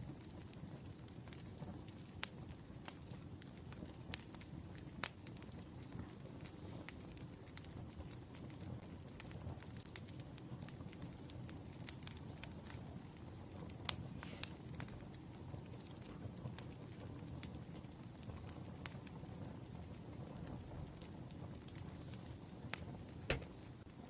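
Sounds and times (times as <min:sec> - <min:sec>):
firewood crackling: 0:00.0 - 0:24.0.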